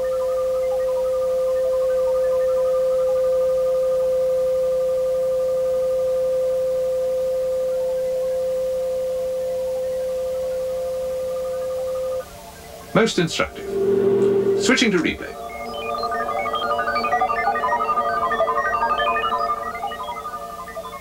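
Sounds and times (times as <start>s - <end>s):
steady electronic sine tone: 0.0s - 21.0s.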